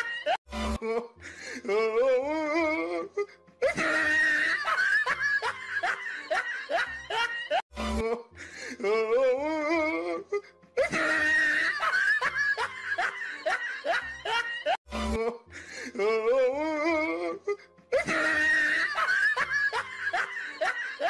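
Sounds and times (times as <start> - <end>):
looped laughter: 0.0 - 2.1, 2.8 - 9.2, 9.9 - 21.0
music: 0.0 - 21.0.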